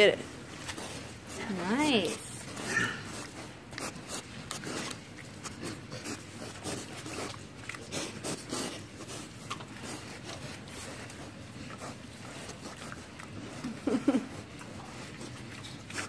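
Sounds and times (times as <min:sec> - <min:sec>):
pigs rubbing and biting vegetables: 0:00.0 - 0:16.0.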